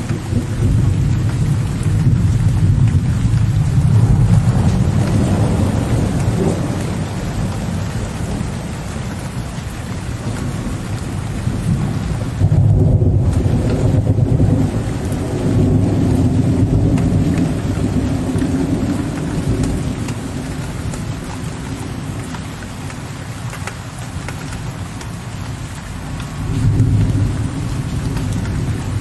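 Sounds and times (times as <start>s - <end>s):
rolling thunder: 0.0s - 22.2s, 26.2s - 29.0s
steady rain: 0.0s - 29.0s.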